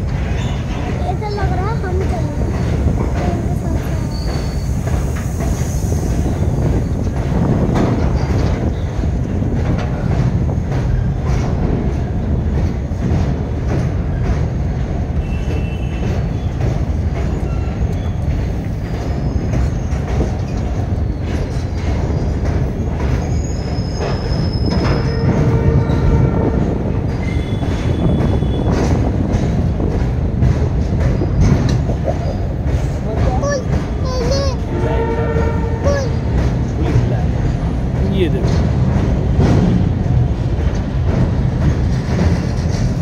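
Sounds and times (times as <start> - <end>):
steel wheels rumbling on rails: 0.0 - 43.0.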